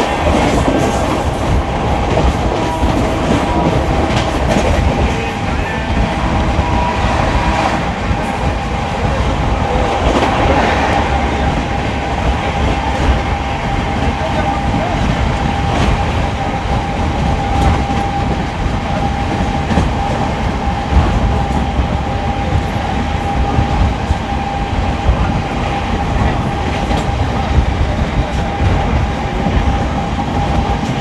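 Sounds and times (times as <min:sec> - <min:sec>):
clickety-clack over rail joints: 0:00.0 - 0:31.0
train wheels rumbling on rails: 0:00.0 - 0:31.0.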